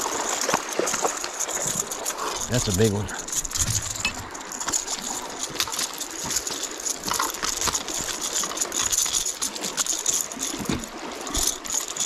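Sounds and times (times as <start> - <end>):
fishing lure and reel rattling: 0.0 - 12.0.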